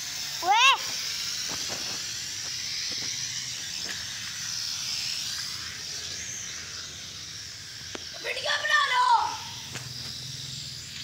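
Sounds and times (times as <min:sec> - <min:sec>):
toy drone propellers buzzing: 0:00.0 - 0:11.0.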